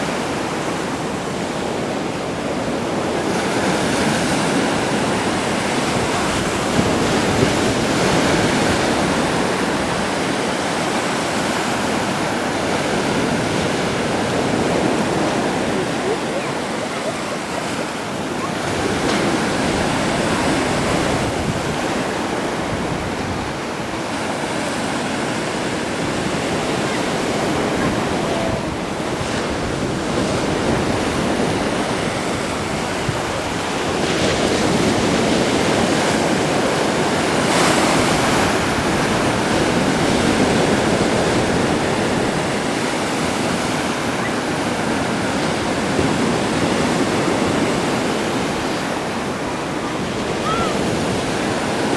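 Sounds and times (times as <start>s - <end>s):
sea waves breaking on shore: 0.0s - 51.9s
wind: 0.0s - 51.9s.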